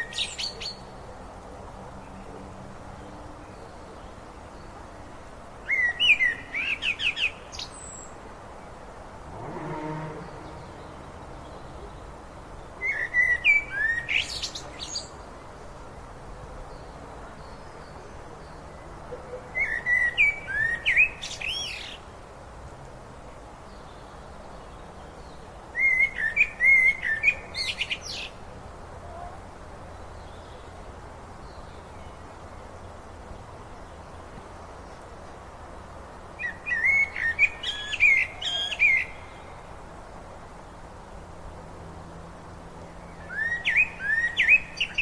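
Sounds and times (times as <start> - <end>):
river water flowing: 0.0 - 45.0
songbird singing: 0.0 - 45.0.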